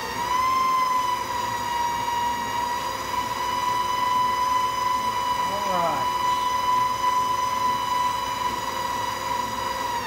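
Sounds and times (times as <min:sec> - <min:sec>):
stand mixer motor whining: 0:00.0 - 0:10.0.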